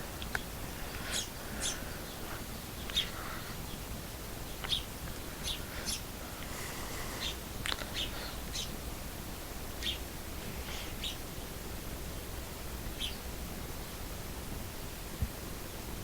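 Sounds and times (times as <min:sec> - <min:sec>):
songbirds chirping: 0:00.0 - 0:15.9
faint steady hiss: 0:00.0 - 0:16.0.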